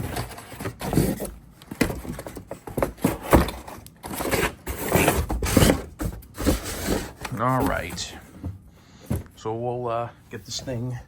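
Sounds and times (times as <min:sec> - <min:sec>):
cardboard scraping and rustling: 0:00.0 - 0:09.4.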